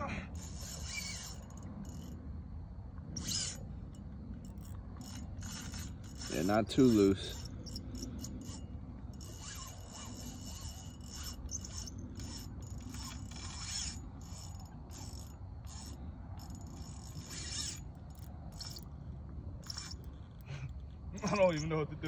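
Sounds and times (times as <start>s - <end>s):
fishing reel clicking and grinding: 0.0s - 2.2s, 3.2s - 19.0s, 19.6s - 21.6s.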